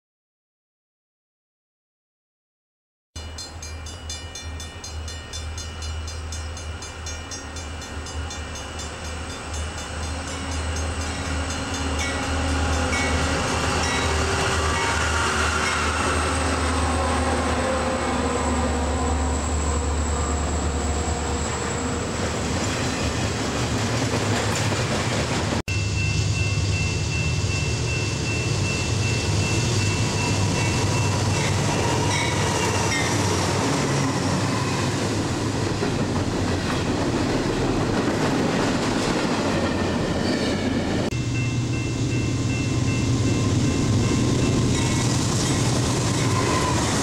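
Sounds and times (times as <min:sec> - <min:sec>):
diesel locomotive engine rumble: 0:03.6 - 0:47.0.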